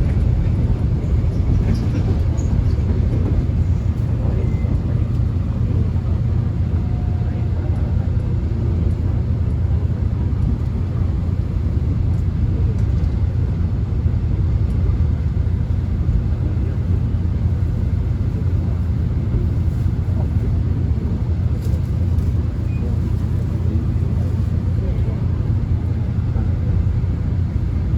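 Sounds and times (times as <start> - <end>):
subway train rumble: 0.0 - 27.9.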